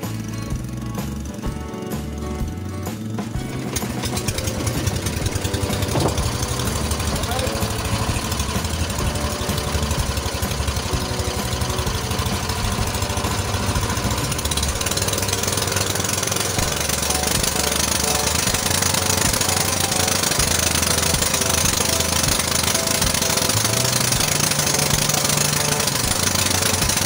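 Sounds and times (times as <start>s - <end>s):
small engine knocking: 0.0s - 27.0s.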